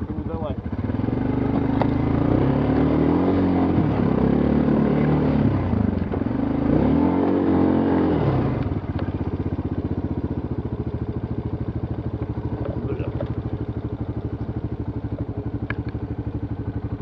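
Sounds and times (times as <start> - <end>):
atv engine idling: 0.0 - 17.0
atv engine revving: 0.0 - 17.0.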